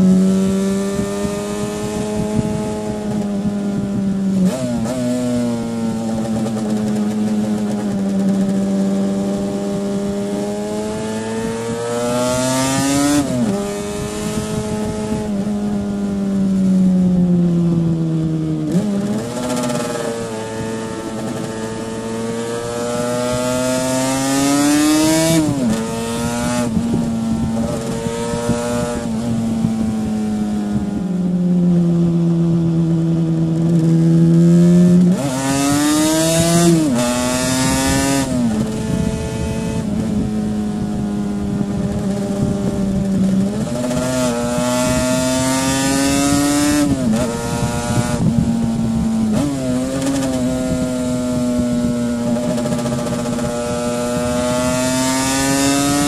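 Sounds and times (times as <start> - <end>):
two-stroke motorcycle engine: 0.0 - 56.0
wind rush on microphone: 0.0 - 56.0.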